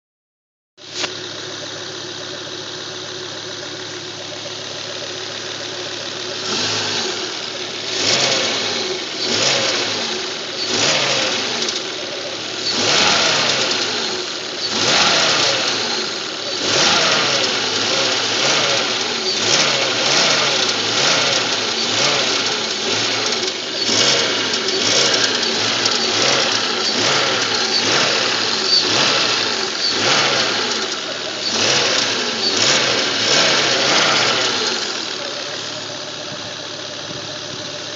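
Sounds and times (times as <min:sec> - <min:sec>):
car engine idling and revving: 0:00.8 - 0:37.9.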